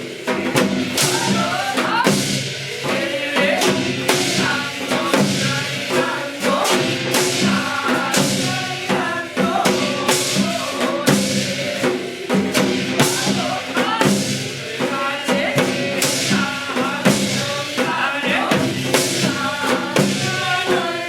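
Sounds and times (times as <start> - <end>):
bright percussion strikes: 0.0 - 21.0
percussion: 0.0 - 21.0
voices singing or chanting: 0.0 - 21.0.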